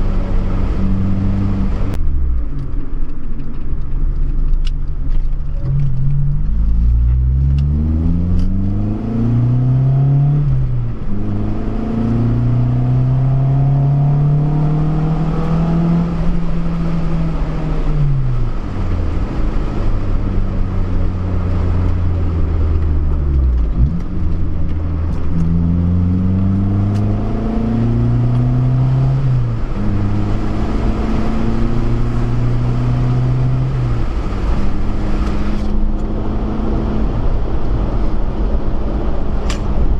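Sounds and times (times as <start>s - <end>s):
car engine revving under load: 0.0s - 3.0s, 4.4s - 39.9s.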